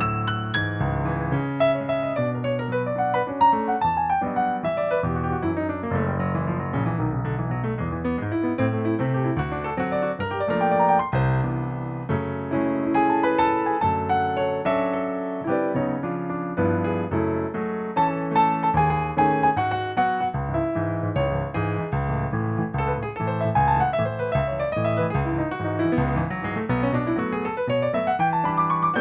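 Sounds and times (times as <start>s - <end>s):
piano playing: 0.0s - 29.0s.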